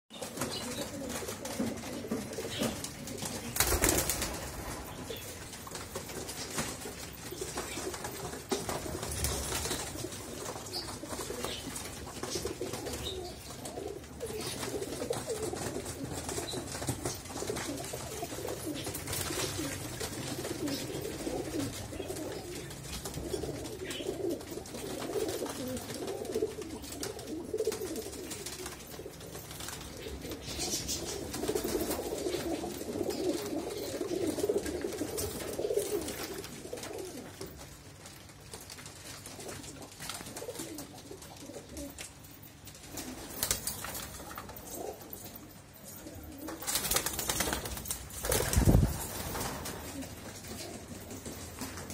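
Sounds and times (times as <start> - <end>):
pigeons cooing: 0.1 - 5.5, 6.9 - 37.6, 39.3 - 42.1, 44.0 - 51.9.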